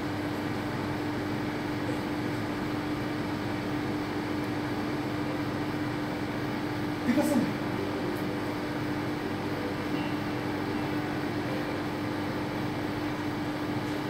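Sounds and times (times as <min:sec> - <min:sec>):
mechanical hum and hiss: 0:00.0 - 0:14.0.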